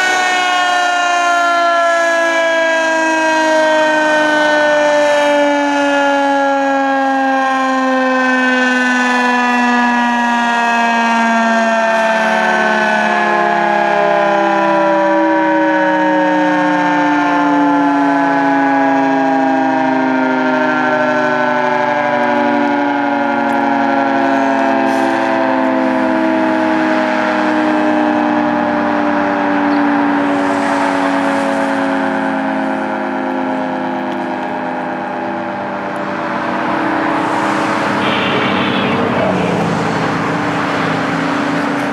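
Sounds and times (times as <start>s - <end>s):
warning siren winding down: 0.0s - 41.9s.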